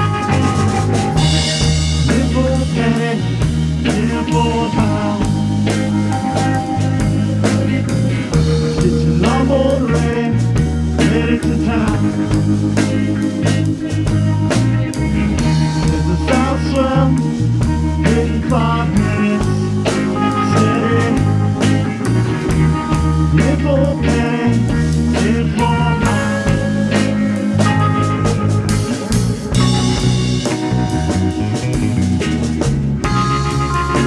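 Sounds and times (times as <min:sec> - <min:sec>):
rock music: 0:00.0 - 0:34.0.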